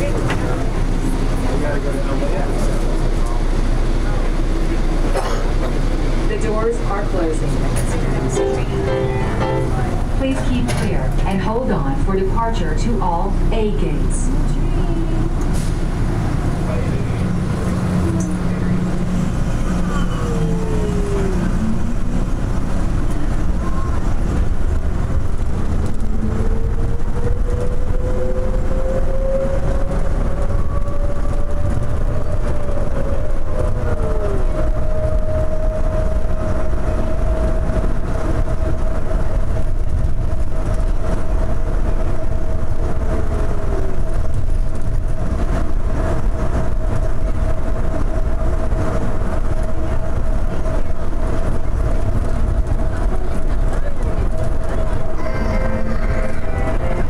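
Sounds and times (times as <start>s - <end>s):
train rumbling through tunnel: 0.0s - 57.0s.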